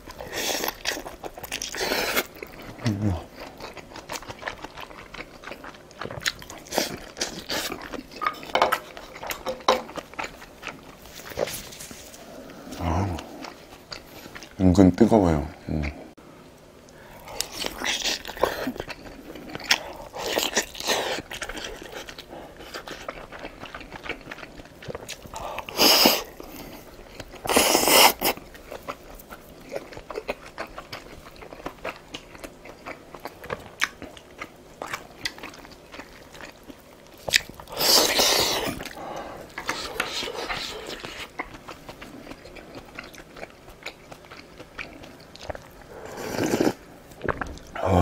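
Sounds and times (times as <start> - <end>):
biting and chewing dumplings: 0.0 - 14.6, 17.2 - 48.0.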